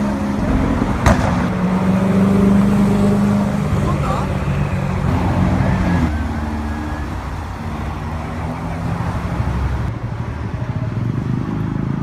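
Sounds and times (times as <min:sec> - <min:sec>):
car engine at low revs: 0:00.0 - 0:12.0
street traffic: 0:00.0 - 0:12.0.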